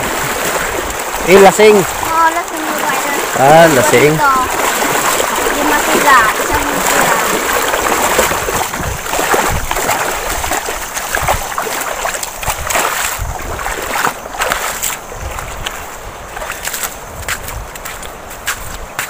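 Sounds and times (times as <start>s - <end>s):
footsteps splashing in shallow water: 0.0s - 19.0s.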